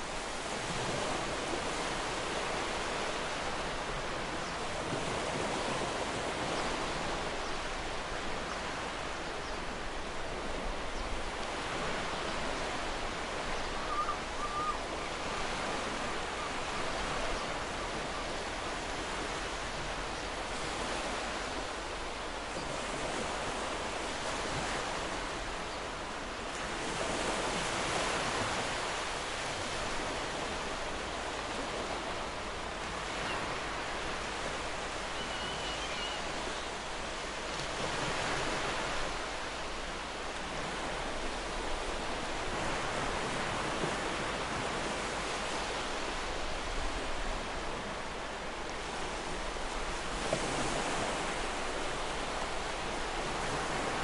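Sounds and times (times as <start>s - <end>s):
ocean surf washing onto beach: 0.0s - 35.4s, 36.2s - 54.0s.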